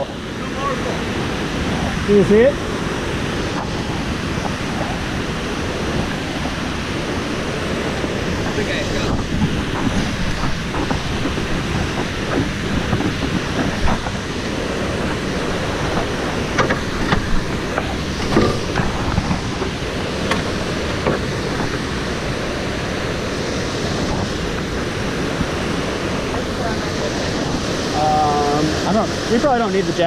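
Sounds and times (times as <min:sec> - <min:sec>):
whitewater rapids rushing: 0:00.0 - 0:30.0.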